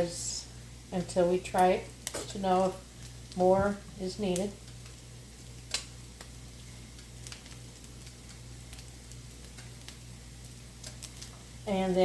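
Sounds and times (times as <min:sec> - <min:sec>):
low steady hum: 0:00.0 - 0:12.0
meatballs sizzling in a frying pan: 0:00.0 - 0:12.0.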